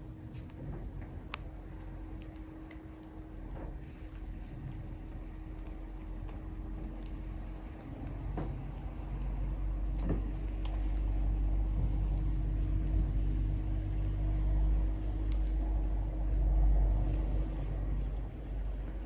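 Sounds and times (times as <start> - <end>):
constant hum: 0.0 - 19.0
low steady rumble: 0.0 - 19.0.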